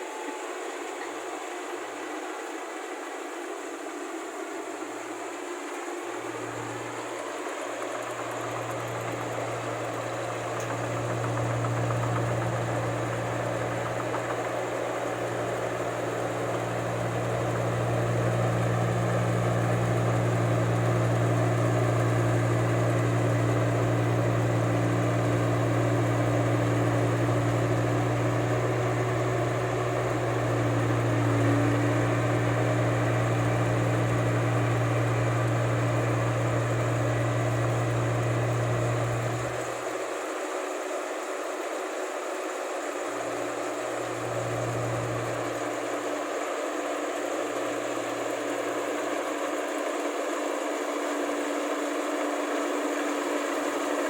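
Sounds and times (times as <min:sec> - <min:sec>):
combine harvester engine droning: 0:00.0 - 0:40.0, 0:43.1 - 0:54.0.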